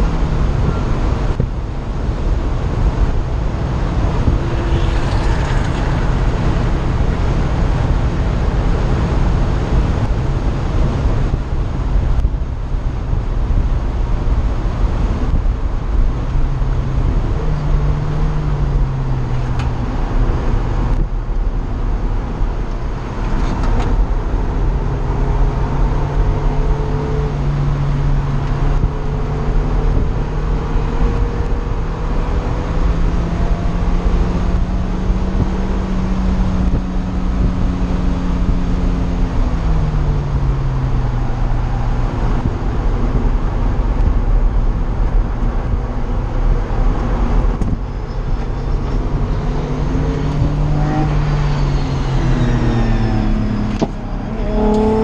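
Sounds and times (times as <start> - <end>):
sports car engine accelerating: 0.0 - 55.0
wind and road noise: 0.0 - 55.0.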